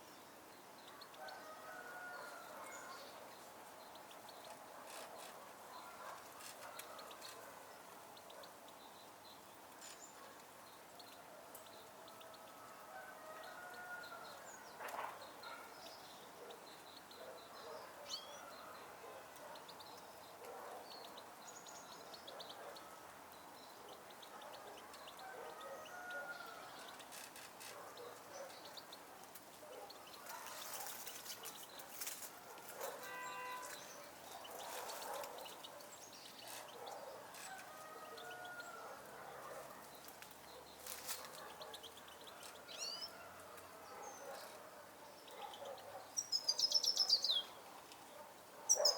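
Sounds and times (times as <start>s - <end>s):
outdoor background noise: 0.0s - 48.9s
songbirds chirping: 0.0s - 48.9s.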